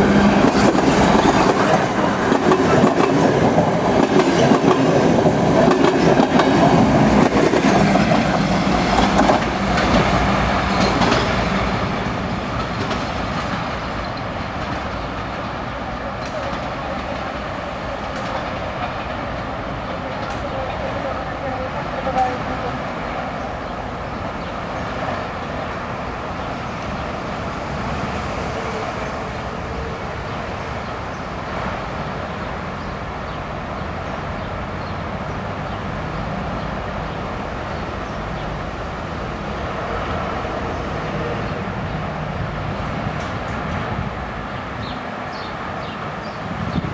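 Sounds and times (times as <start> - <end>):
train carriages rolling on rails: 0.0 - 46.9.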